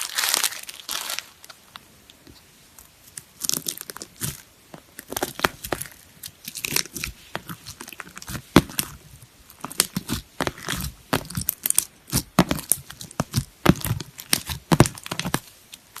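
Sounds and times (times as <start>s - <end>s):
slime crackling and popping: 3.0s - 16.0s.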